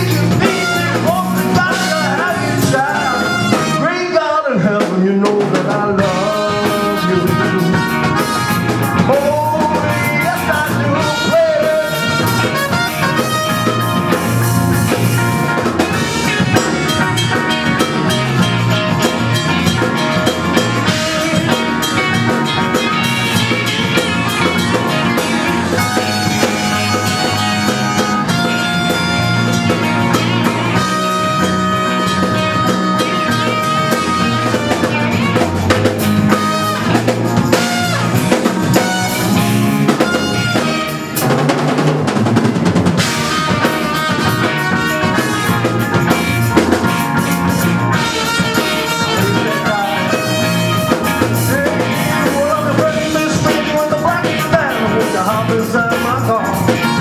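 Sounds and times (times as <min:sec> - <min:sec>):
held lead guitar notes: 0:00.0 - 0:03.9, 0:05.4 - 0:57.0
drum kit steady beat: 0:00.0 - 0:57.0.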